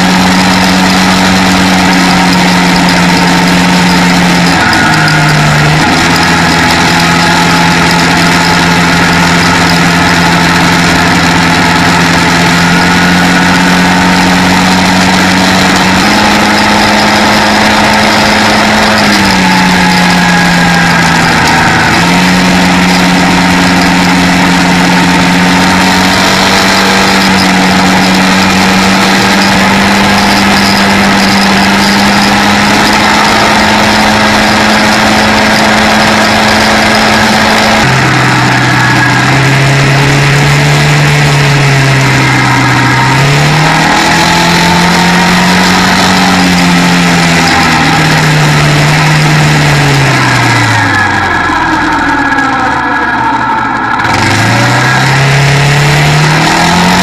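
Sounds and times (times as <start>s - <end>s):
quad engine droning: 0.0s - 57.0s
wind and road noise: 0.0s - 57.0s.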